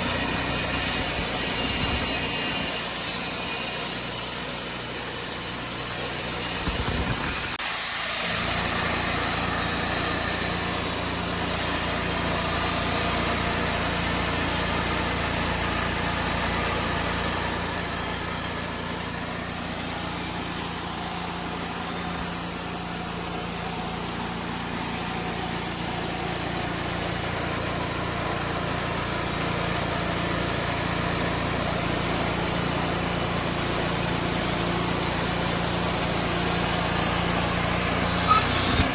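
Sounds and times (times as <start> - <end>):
band sawmill cutting log: 0.0 - 38.9.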